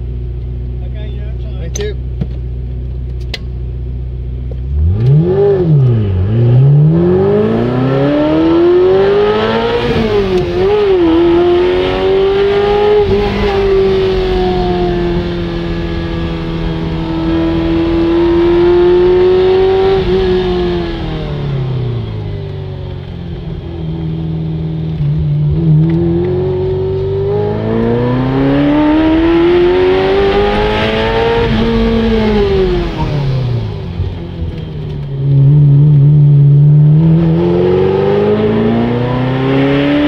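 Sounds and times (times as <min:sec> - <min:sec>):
car engine revving: 0:04.4 - 0:40.0.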